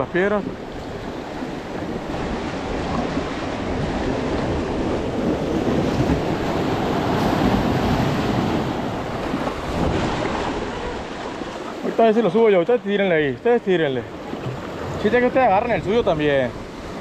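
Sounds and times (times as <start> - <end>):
surf breaking against rocks: 0.4 - 17.0.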